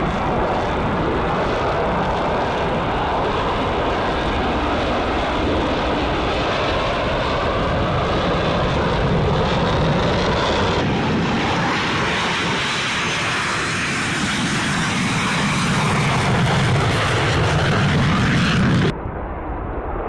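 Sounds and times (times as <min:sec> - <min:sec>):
fighter jet taking off: 0:00.0 - 0:20.0.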